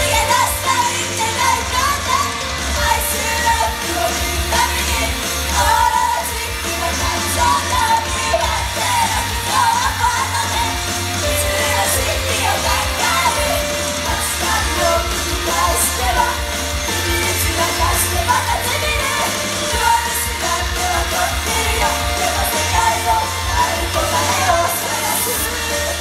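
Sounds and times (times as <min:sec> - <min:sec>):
bass and drums backing track: 0:00.0 - 0:26.0
women singing pop-rock: 0:00.0 - 0:26.0.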